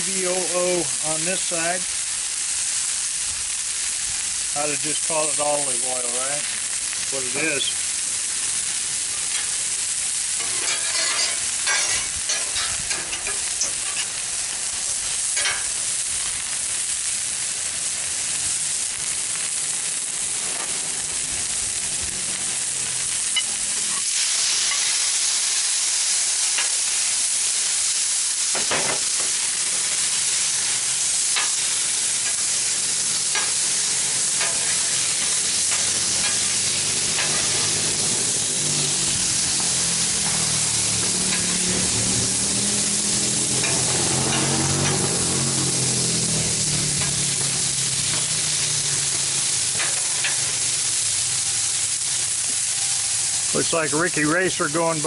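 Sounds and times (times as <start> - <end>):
vegetables sizzling on griddle: 0.0 - 55.0.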